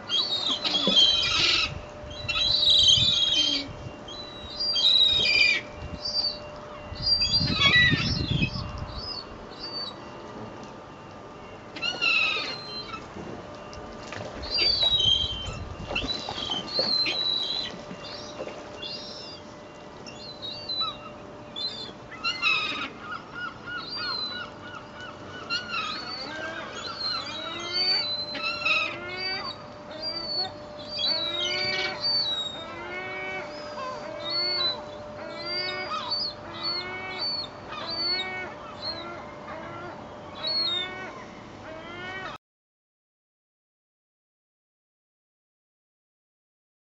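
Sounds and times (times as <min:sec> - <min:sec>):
seagulls calling: 0:00.0 - 0:10.3, 0:11.0 - 0:42.4
faint steady hum: 0:00.0 - 0:42.4.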